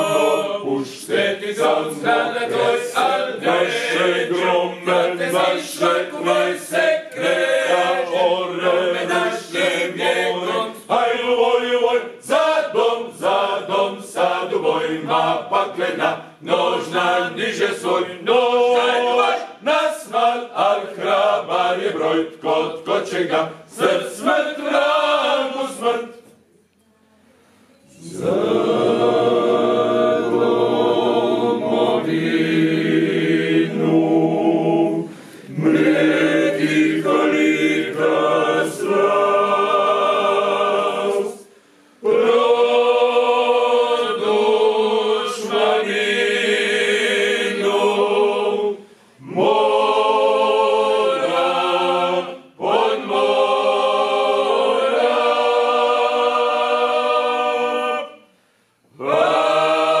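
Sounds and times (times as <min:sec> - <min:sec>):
male choir singing a cappella: 0:00.0 - 0:26.4, 0:27.9 - 1:00.0.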